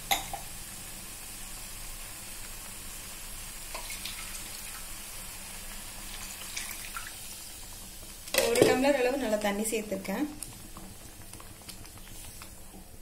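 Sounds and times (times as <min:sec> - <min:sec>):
masala sizzling in a pan: 0:00.0 - 0:13.0.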